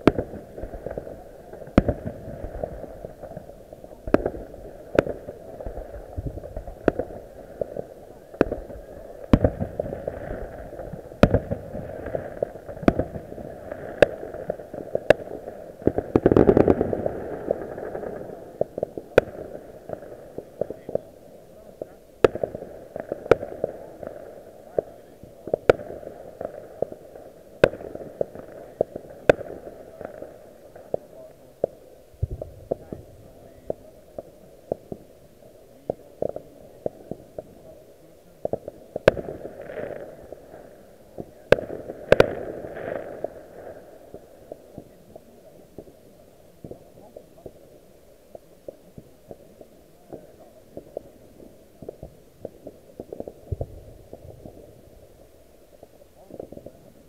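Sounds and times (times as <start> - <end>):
distant fireworks bangs and pops: 0.0 - 57.0
low crackle: 0.0 - 57.0.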